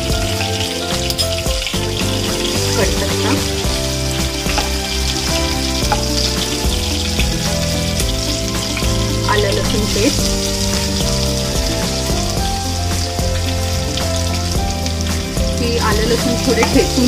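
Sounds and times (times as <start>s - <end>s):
background music: 0.0s - 17.0s
hot oil sizzling: 0.0s - 17.0s.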